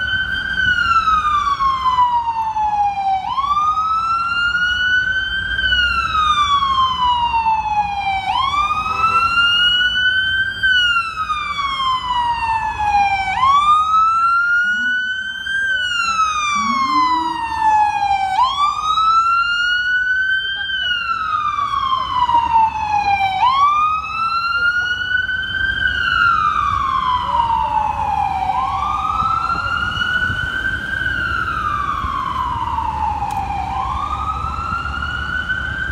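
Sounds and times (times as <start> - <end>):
ambulance siren wailing: 0.0 - 35.9
traffic rumble: 0.0 - 35.9.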